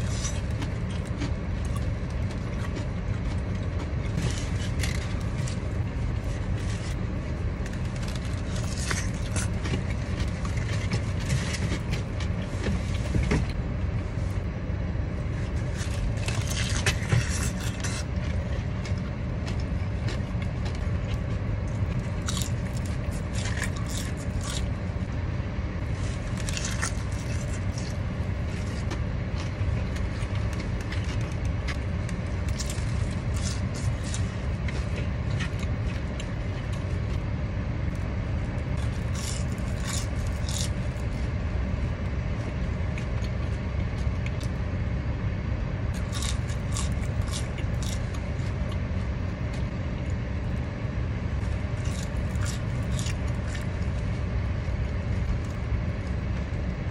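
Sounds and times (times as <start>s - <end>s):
crunchy chewing: 0.0s - 14.5s, 15.2s - 56.9s.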